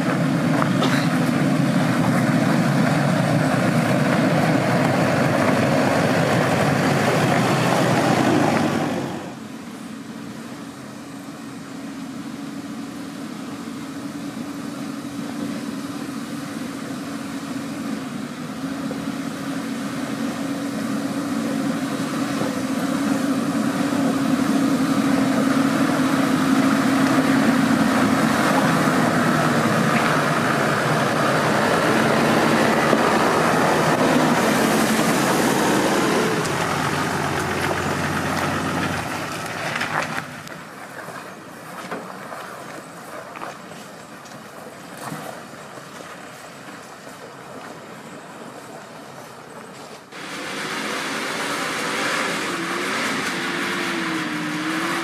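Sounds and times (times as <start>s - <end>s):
off-road vehicle engine under load: 0.0s - 55.0s.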